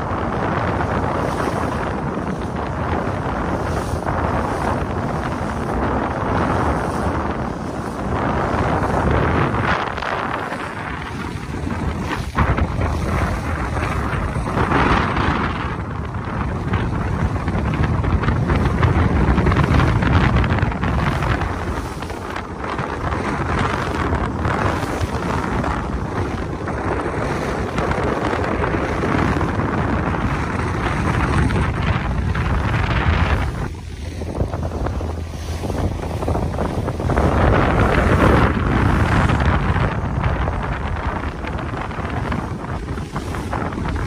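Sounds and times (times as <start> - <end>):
water rushing along hull: 0.0 - 44.0
wind buffeting microphone: 0.0 - 44.0.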